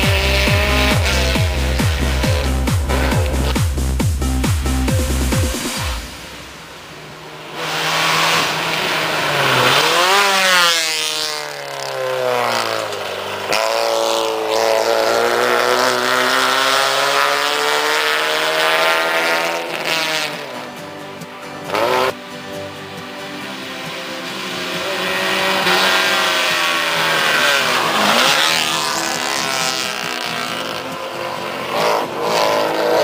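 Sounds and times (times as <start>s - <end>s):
rally car engine at high revs: 0.0s - 6.0s, 6.9s - 20.8s, 21.6s - 22.2s, 24.2s - 33.0s.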